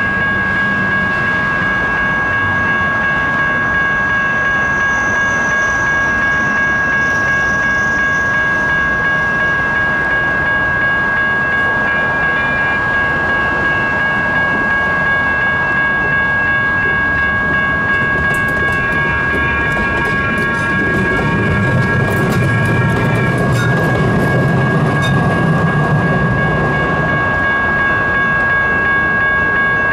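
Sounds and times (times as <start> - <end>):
railroad crossing bells ringing: 0.0 - 29.9
train rumbling: 0.0 - 29.9.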